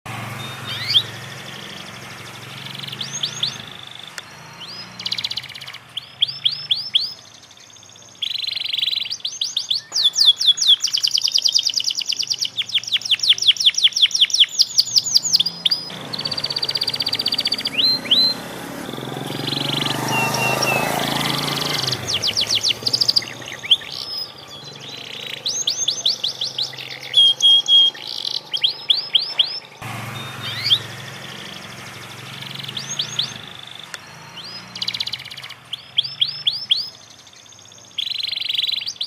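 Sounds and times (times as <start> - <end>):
canary singing whistled trills: 0.3 - 39.0.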